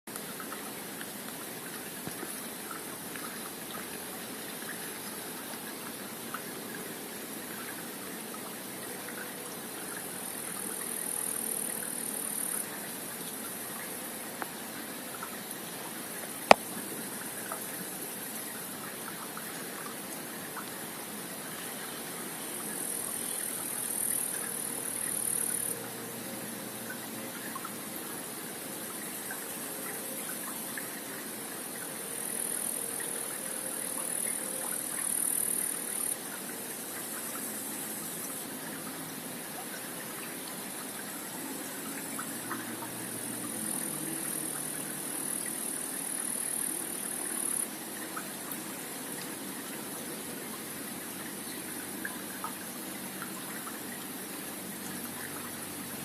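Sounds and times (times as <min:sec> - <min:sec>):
creek water running: 0:00.1 - 0:56.0.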